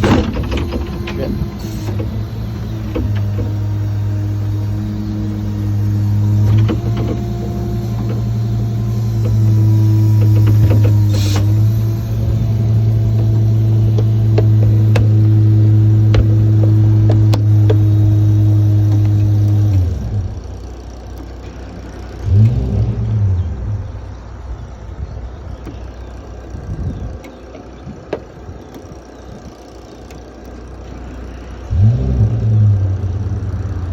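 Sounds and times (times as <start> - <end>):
hydraulic system humming: 0.0 - 33.9.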